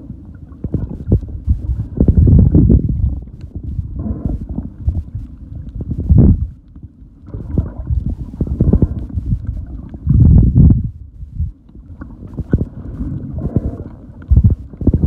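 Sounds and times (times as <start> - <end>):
underwater rumbling and sloshing: 0.0 - 15.0.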